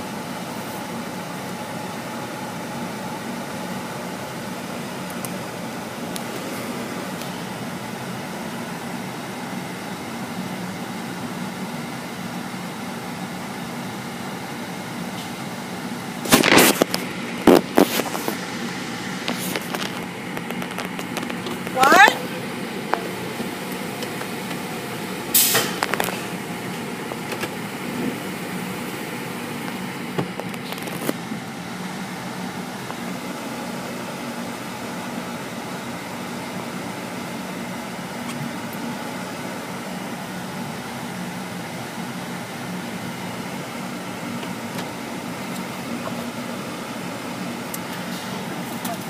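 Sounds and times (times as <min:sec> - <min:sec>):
car wash machinery humming: 0:00.0 - 0:49.0.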